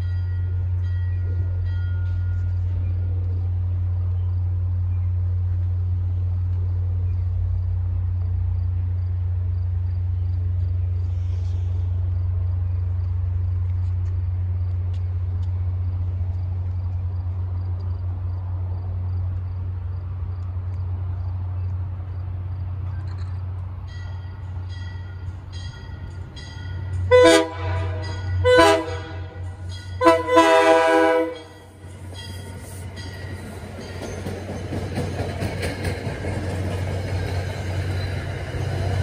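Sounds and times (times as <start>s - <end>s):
diesel locomotive engine droning: 0.0s - 39.0s.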